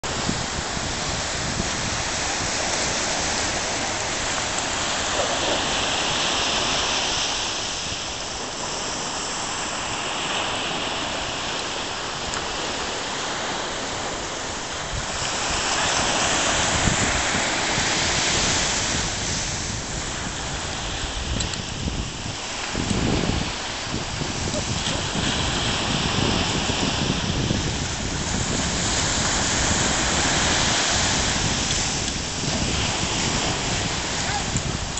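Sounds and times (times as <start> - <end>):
ocean surf breaking: 0.0 - 34.9
wind buffeting microphone: 0.0 - 34.9.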